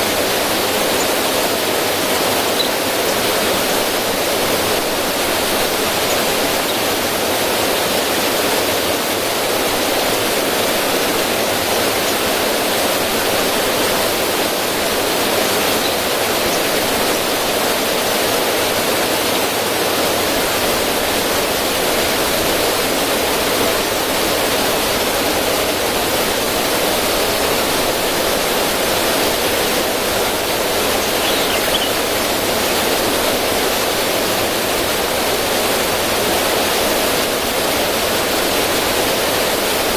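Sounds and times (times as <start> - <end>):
river running over rocks: 0.0 - 39.9.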